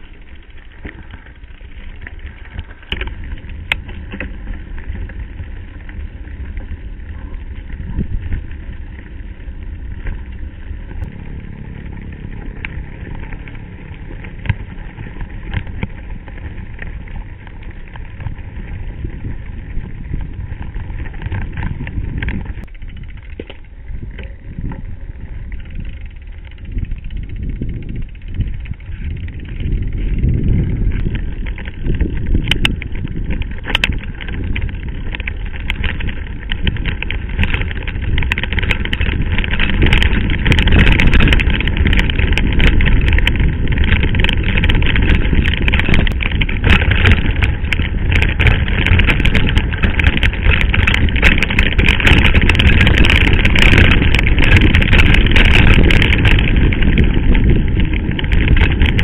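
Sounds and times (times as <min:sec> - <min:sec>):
bike rattling with sharp clicks: 0:00.0 - 0:59.0
tyres crunching over stones: 0:00.0 - 0:59.0
wind rumble on microphone: 0:00.0 - 0:59.0.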